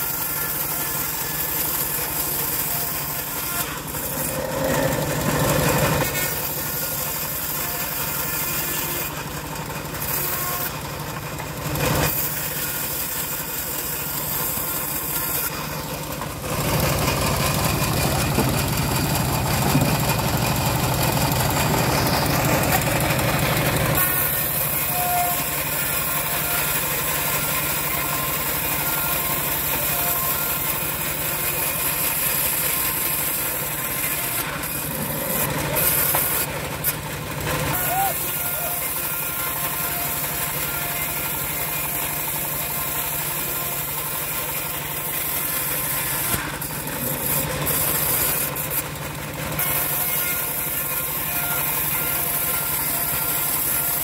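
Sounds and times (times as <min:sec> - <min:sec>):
bandsaw mill humming: 0:00.0 - 0:54.0
saw blade rasping through wood: 0:00.0 - 0:54.0.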